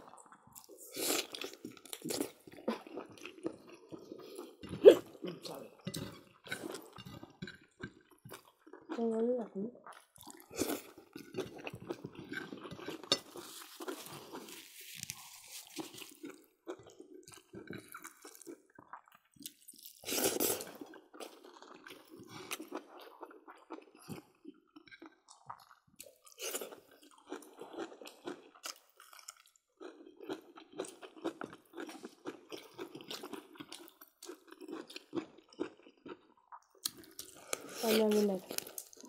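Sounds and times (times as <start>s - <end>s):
people chewing and crunching food: 0.0s - 39.0s.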